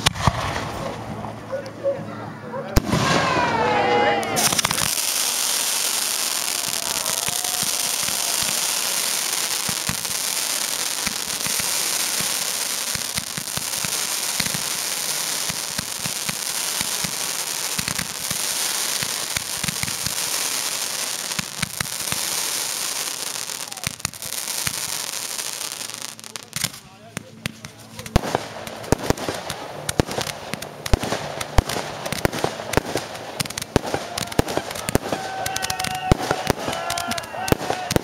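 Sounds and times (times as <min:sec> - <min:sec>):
fireworks crackling: 0:00.0 - 0:01.9, 0:02.7 - 0:38.0
fireworks hiss: 0:04.2 - 0:38.0.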